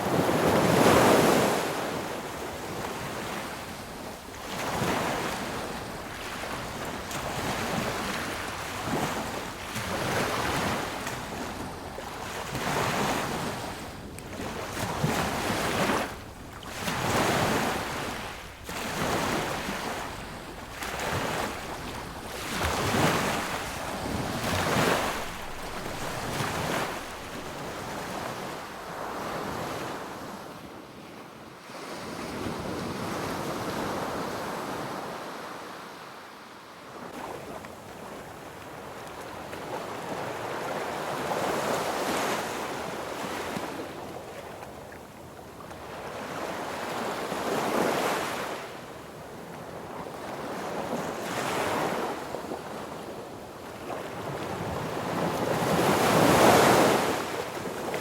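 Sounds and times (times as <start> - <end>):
sea waves breaking on a beach: 0.0 - 58.0.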